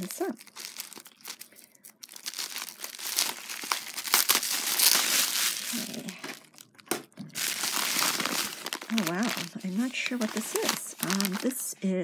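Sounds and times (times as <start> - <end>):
bubble wrap crinkling: 0.0 - 11.7
plastic bag crinkling: 0.0 - 11.7.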